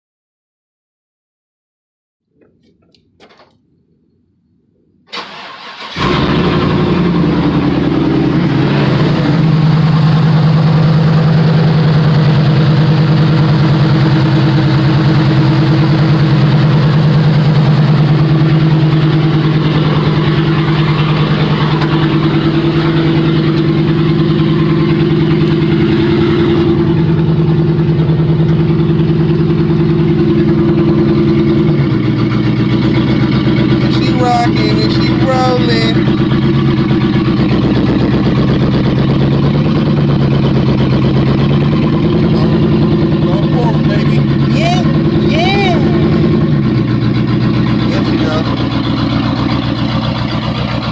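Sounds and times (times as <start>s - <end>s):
truck engine cranking and running: 2.4s - 50.9s.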